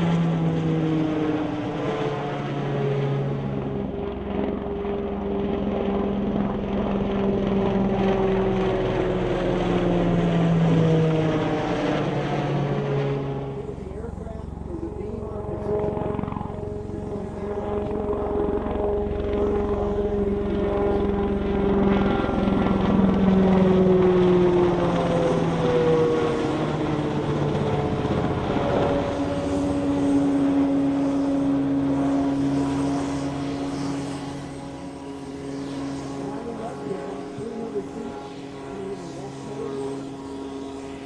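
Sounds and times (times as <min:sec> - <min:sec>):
helicopter flying past: 0:00.0 - 0:41.0.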